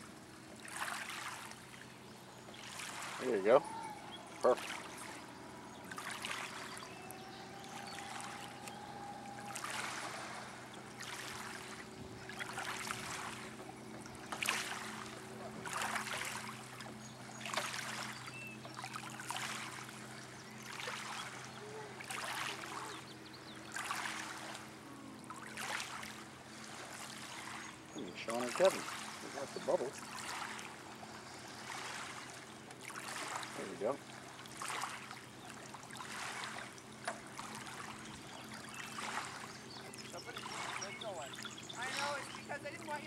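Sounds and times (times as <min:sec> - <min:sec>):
small waves lapping: 0:00.0 - 0:43.0.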